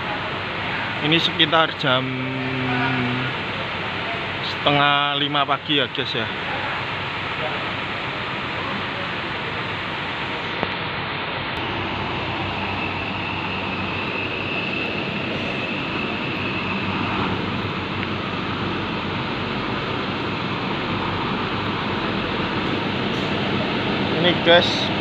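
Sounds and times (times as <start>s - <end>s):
diesel buses idling: 0.0s - 25.0s
faint high whine: 0.0s - 25.0s.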